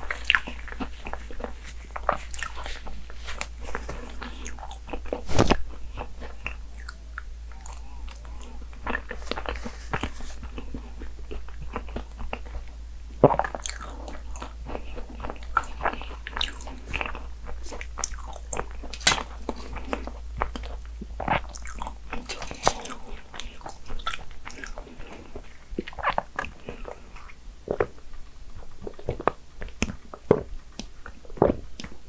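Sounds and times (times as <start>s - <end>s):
crunchy pastry chewing: 0.0s - 32.0s.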